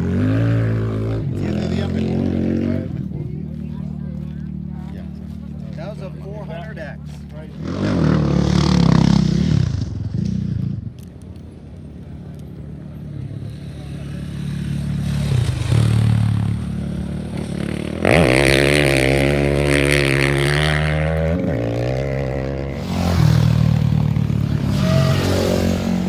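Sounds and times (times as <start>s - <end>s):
motorcycle engine at high revs: 0.0s - 11.1s, 12.4s - 26.0s
motorcycle engines running hard: 0.0s - 26.0s.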